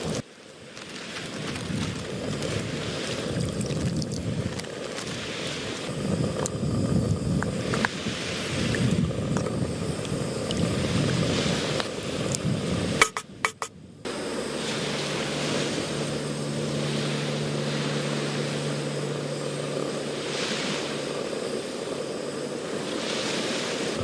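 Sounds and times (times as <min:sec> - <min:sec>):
sea waves washing on shore: 0:00.0 - 0:24.0
wind: 0:00.0 - 0:24.0.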